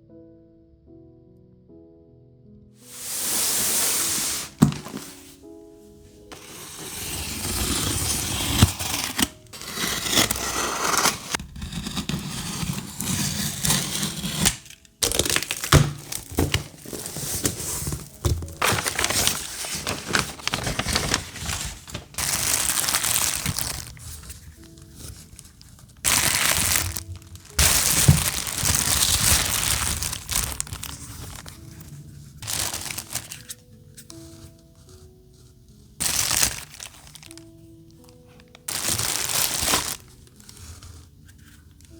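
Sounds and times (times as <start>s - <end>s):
soft background music: 0.0s - 41.9s
crinkling of crafting materials: 2.9s - 5.4s, 6.3s - 41.9s.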